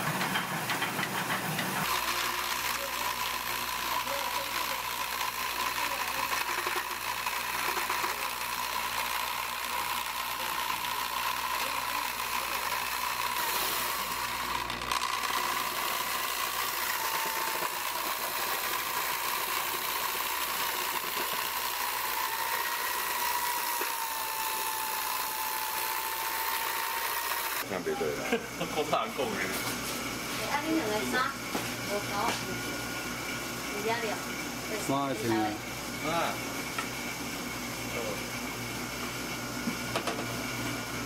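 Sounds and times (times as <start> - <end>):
electric drill mixing: 0.0 - 41.0.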